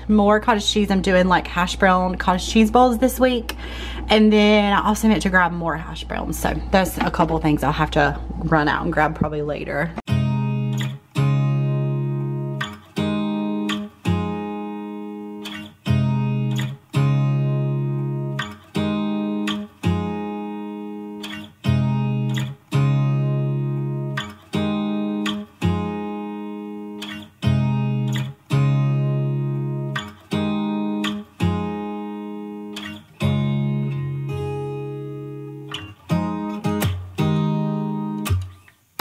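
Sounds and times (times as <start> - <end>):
acoustic guitar chords: 0.0 - 8.9, 10.0 - 39.0.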